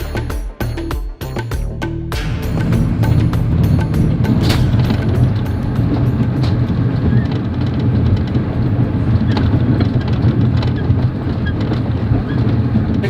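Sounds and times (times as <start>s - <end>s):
train carriage rumble: 2.2s - 13.0s.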